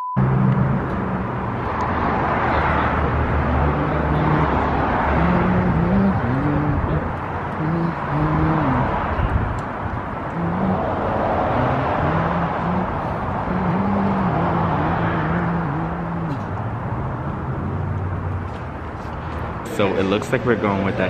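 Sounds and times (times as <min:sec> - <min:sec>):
traffic rumble and hiss: 0:00.2 - 0:21.0.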